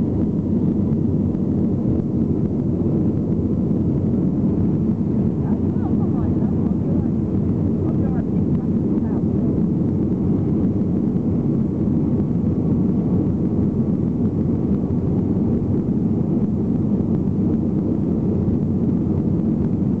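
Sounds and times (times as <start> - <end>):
airliner cabin engine noise: 0.0 - 20.0.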